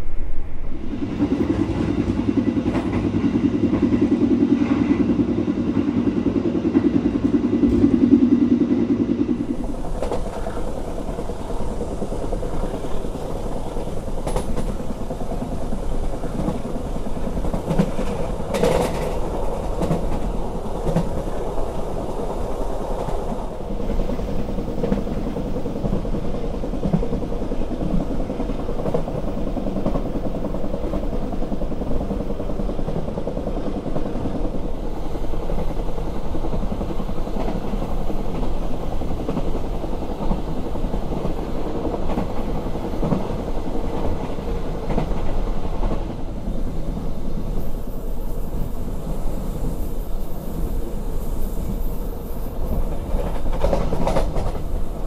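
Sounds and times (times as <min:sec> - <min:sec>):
low rumble between train coaches: 0:00.0 - 0:55.0
train wheels on rails: 0:00.0 - 0:55.0.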